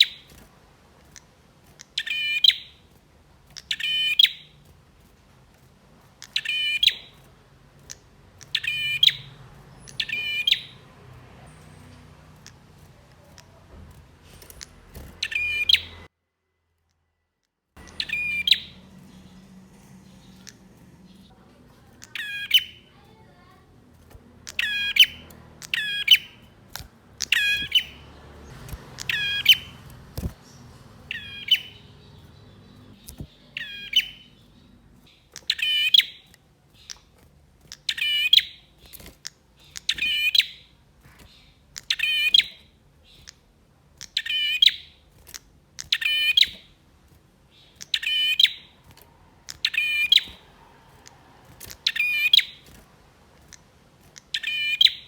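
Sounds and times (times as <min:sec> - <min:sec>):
bird sharp metallic chirps: 0:00.0 - 0:00.4, 0:01.1 - 0:04.7, 0:06.1 - 0:16.1, 0:17.8 - 0:46.8, 0:47.5 - 0:52.8, 0:53.4 - 0:55.0.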